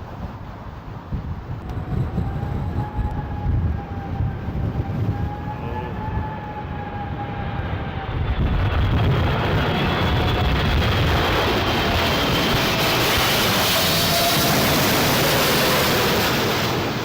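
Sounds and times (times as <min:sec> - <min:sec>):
wind rumble on microphone: 0:00.0 - 0:17.0
jet engines whining: 0:01.4 - 0:17.0.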